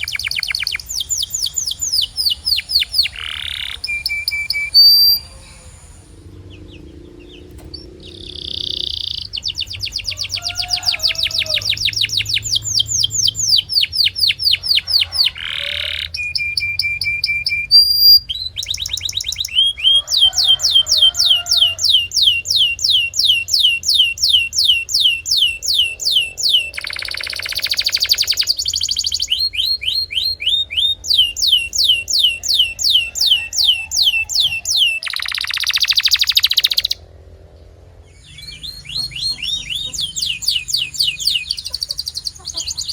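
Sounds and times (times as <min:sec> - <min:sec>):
canary singing trills: 0:00.0 - 0:37.1, 0:38.0 - 0:42.9.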